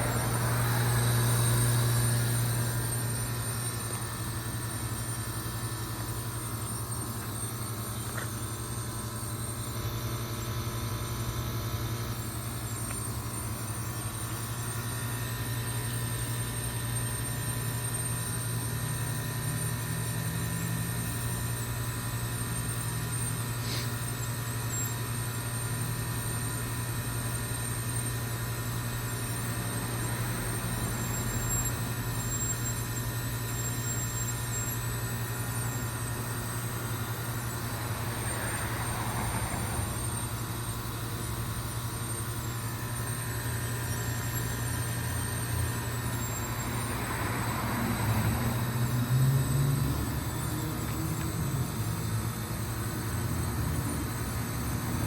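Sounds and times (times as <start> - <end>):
high whine: 0.0 - 24.8, 26.2 - 55.0
heat pump compressor hum: 0.0 - 55.0.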